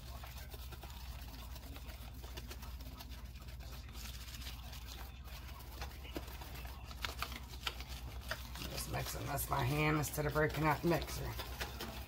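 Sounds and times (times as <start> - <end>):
batter mixed in plastic tub: 0.0 - 12.0.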